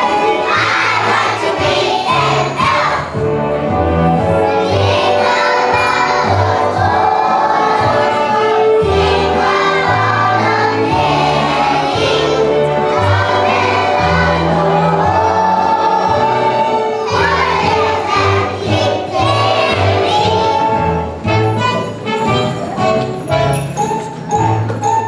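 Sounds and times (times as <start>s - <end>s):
children's choir singing: 0.0s - 25.0s
instrumental accompaniment with bass: 0.0s - 25.0s.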